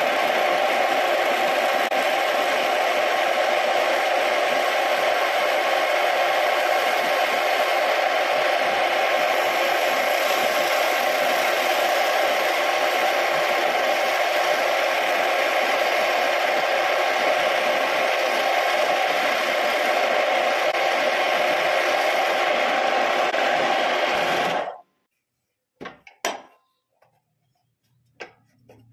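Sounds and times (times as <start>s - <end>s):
lathe motor whirring: 0.0s - 24.8s.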